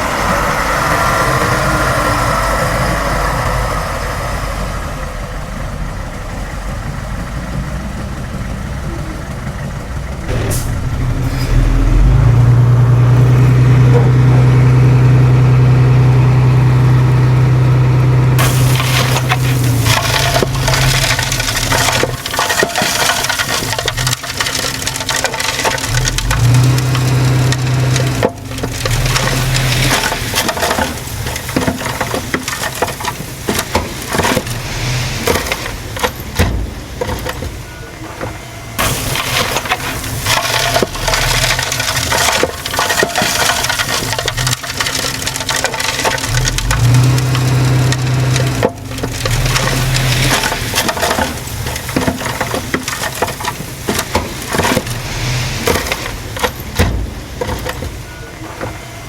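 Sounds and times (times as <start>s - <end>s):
bulldozer diesel engine: 0.0s - 59.0s
tracks crunching and clattering: 5.6s - 59.0s.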